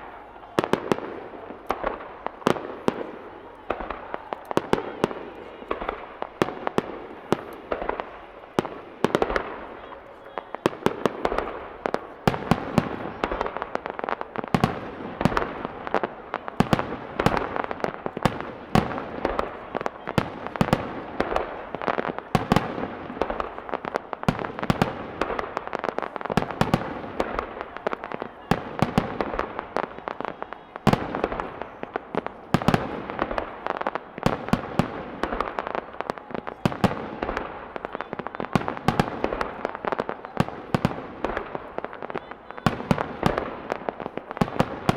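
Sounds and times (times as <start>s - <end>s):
fireworks bangs: 0.0s - 44.9s
fireworks crackling: 0.0s - 44.9s.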